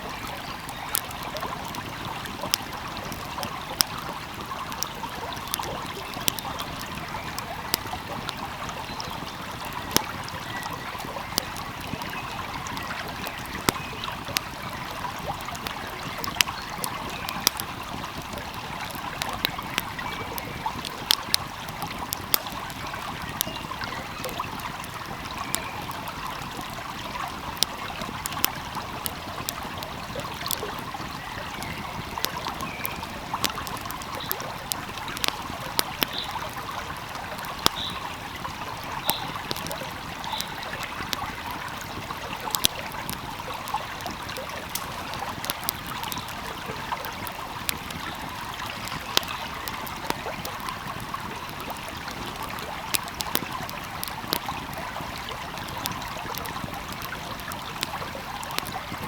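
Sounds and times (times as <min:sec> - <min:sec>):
stream flowing: 0:00.0 - 0:59.0
wood fire crackling: 0:00.0 - 0:59.0.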